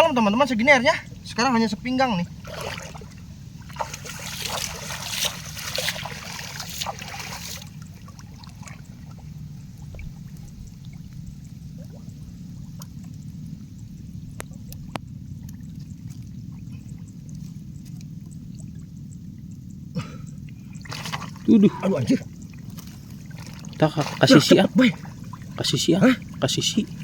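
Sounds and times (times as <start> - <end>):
water splashing from wading: 0.0 - 19.5, 20.4 - 27.0
water trickling: 0.0 - 27.0.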